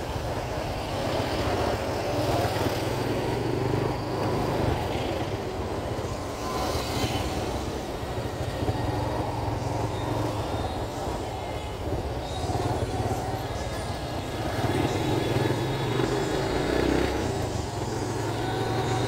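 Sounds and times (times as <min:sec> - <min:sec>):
road noise: 0:00.0 - 0:19.0
small motorcycle engine running: 0:00.1 - 0:19.0.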